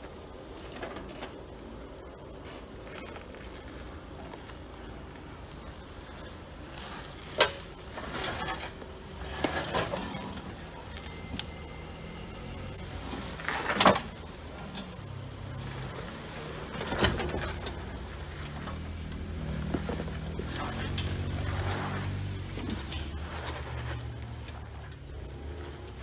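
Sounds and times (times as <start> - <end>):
engine running low: 0.0 - 26.0.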